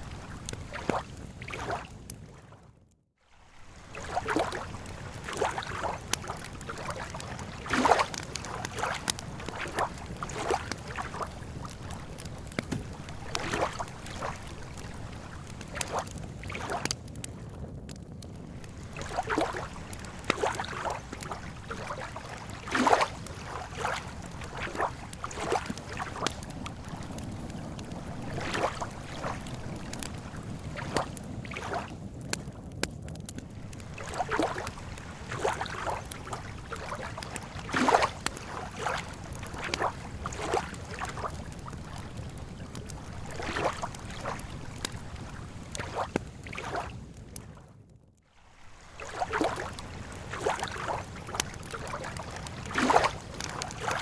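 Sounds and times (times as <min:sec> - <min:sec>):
campfire crackling: 0:00.0 - 0:02.4, 0:03.3 - 0:54.0
water lapping at shore: 0:00.0 - 0:17.5, 0:18.3 - 0:32.5, 0:33.4 - 0:47.6, 0:48.2 - 0:54.0.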